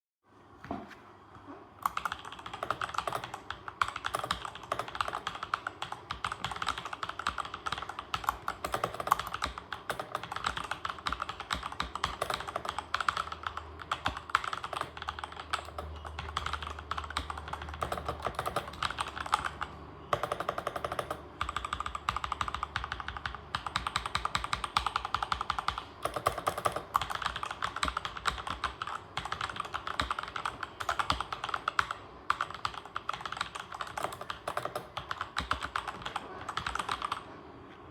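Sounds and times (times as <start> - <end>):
mechanical keyboard typing: 1.8 - 37.2.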